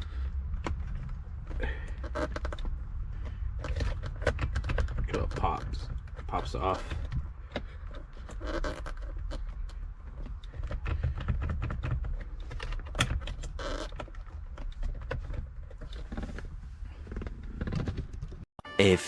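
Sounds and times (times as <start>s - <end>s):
rattling and handling noise: 0.0s - 18.4s.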